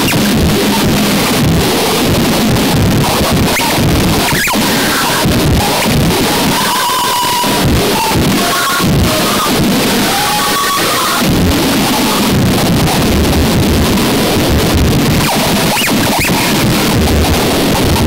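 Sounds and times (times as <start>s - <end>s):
distorted churning noise music: 0.0s - 18.0s.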